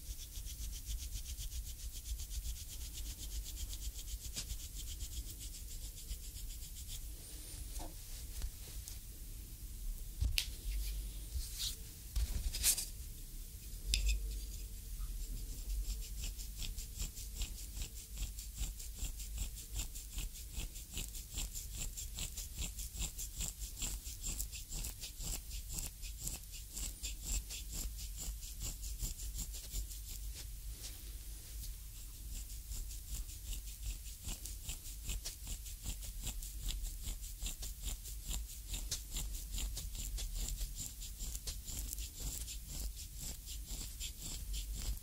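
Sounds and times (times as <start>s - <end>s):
wooden stick rubbing bare foot: 0.0s - 8.9s, 10.2s - 12.9s, 13.9s - 45.0s.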